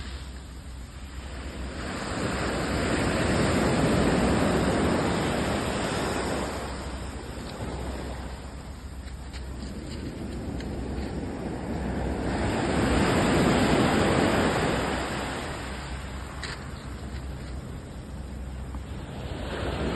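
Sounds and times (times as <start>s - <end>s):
sea waves breaking on shore: 0.0s - 19.9s
steady low rumble: 0.0s - 19.9s.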